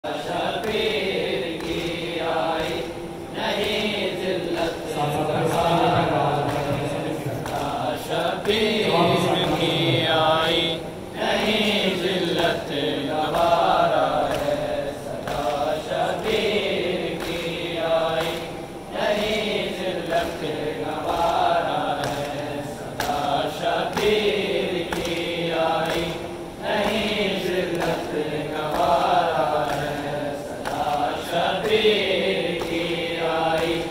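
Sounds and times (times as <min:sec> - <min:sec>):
voices chanting a lament: 0:00.0 - 0:33.9.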